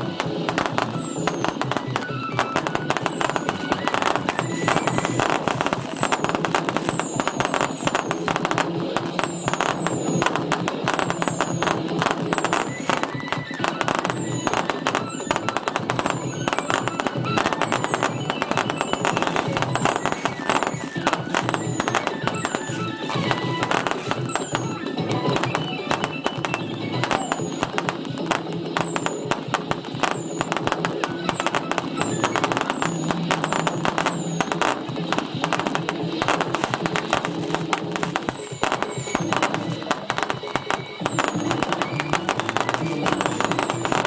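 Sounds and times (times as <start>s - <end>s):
fireworks crackling barrage: 0.0s - 44.0s
fireworks falling whistles: 0.0s - 44.0s
music: 0.0s - 44.0s.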